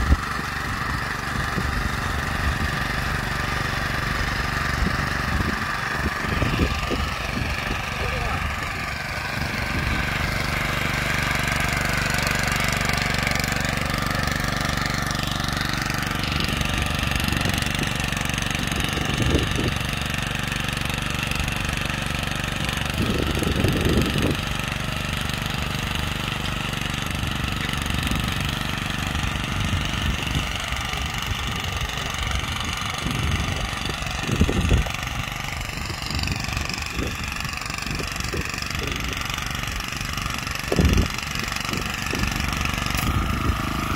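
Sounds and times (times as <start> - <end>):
power weeder engine running: 0.0 - 43.9
tines churning dry soil: 0.0 - 43.9.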